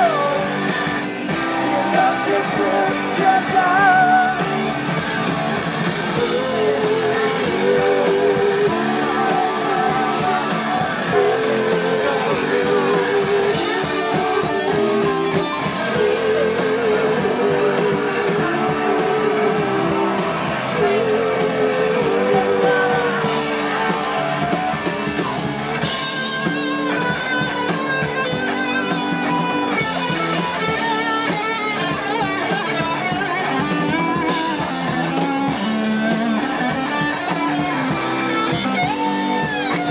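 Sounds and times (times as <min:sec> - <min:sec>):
drums and bass: 0:00.0 - 0:39.9
electric guitar riff: 0:00.0 - 0:39.9
higher guitar lines: 0:00.0 - 0:39.9.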